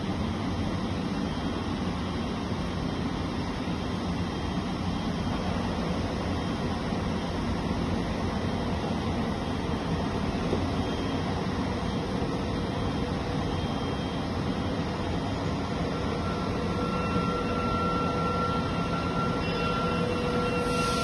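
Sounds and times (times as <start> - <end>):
faint high whine: 0.0 - 21.0.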